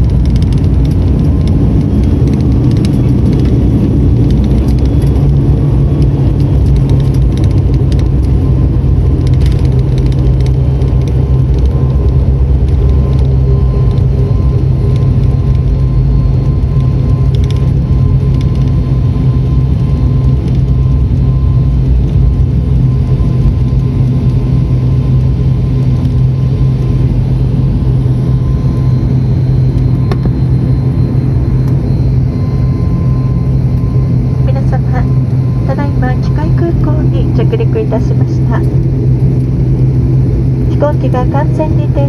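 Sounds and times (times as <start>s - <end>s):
airliner engines droning in cabin: 0.0s - 42.0s.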